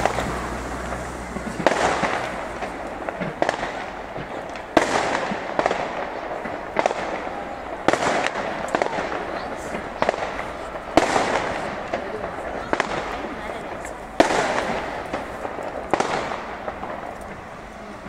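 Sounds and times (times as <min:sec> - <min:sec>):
fireworks bursting with sharp bangs: 0:00.0 - 0:18.0.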